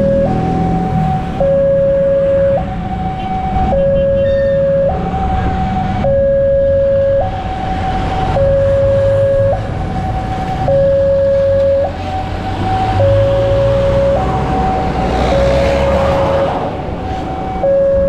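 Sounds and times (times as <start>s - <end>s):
two-tone level crossing alarm: 0.0s - 16.5s, 17.4s - 18.0s.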